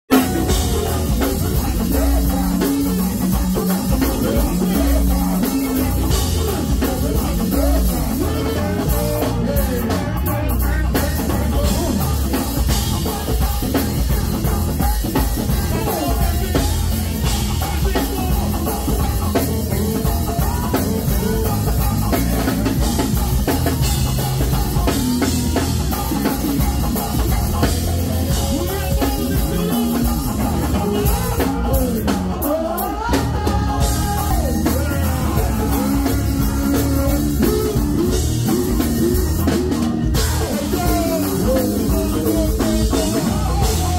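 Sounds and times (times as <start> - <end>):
drum kit beat: 0.0 - 43.9
electric guitar: 0.0 - 43.9
keyboards: 0.0 - 43.9.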